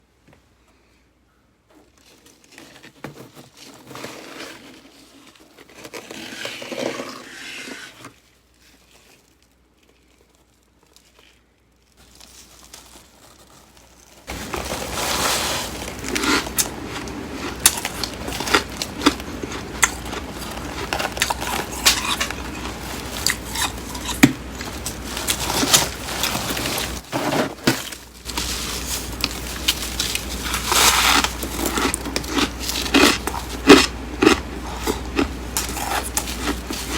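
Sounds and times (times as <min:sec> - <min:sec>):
frost crunching and crackling: 0:02.0 - 0:36.9.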